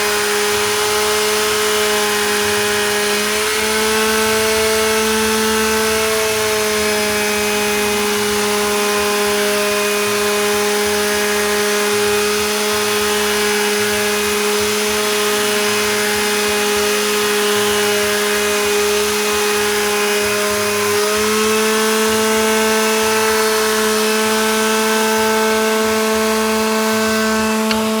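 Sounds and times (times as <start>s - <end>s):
power tool motor whining: 0.0s - 28.0s.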